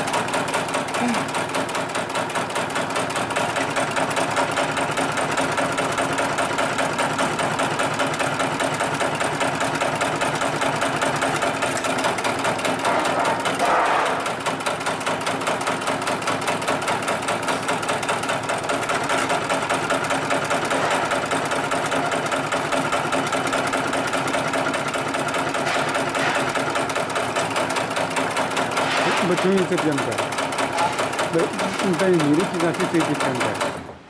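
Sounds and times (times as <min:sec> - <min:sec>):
sewing machine stitching: 0:00.0 - 0:34.0.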